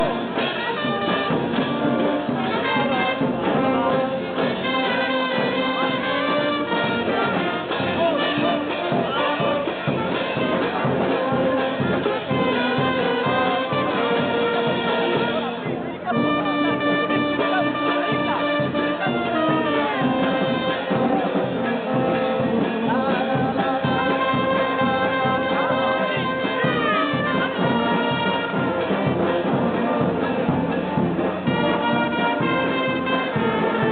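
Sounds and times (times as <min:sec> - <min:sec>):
brass band playing a march: 0:00.0 - 0:33.9.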